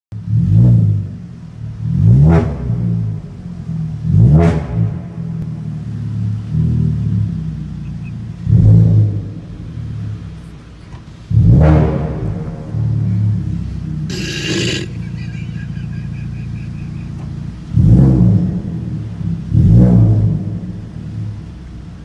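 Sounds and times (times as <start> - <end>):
car engine revving: 0.2 - 21.8.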